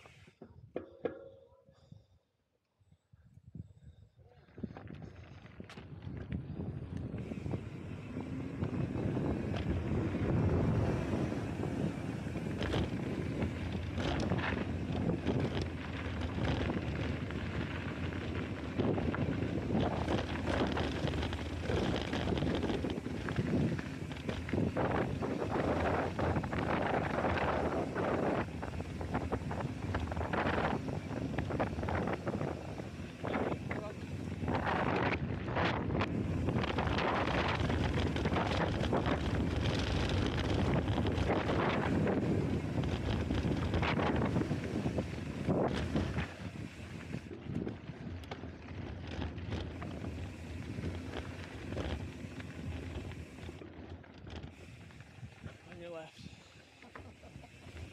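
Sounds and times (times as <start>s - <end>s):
wind buffeting microphone: 2.9s - 55.6s
bike rattling: 4.3s - 57.9s
tyres rumbling on dirt: 7.2s - 55.9s.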